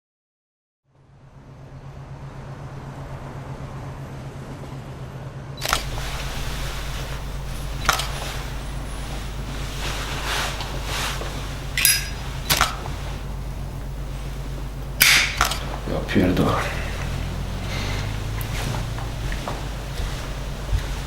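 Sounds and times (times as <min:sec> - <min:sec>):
low hum with hiss: 0:00.9 - 0:21.0
deeper rumble: 0:01.3 - 0:21.0.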